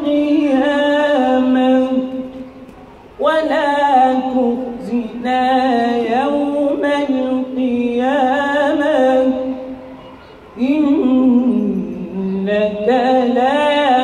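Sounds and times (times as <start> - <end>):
man chanting through a microphone: 0.0 - 14.0.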